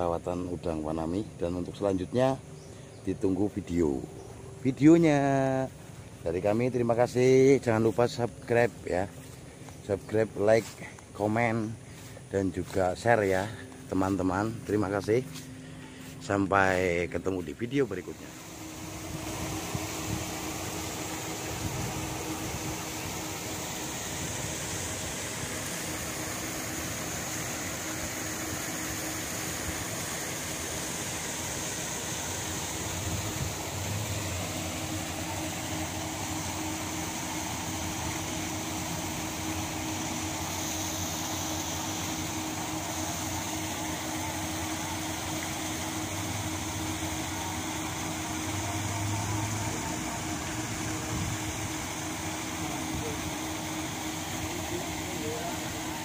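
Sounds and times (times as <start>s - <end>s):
motor hum: 0.0s - 56.0s.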